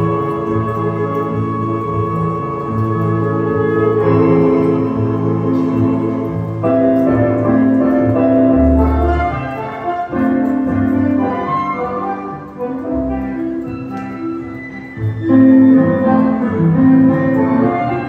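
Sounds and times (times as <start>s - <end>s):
orchestra playing tango music: 0.0s - 18.0s
piano: 0.0s - 18.0s.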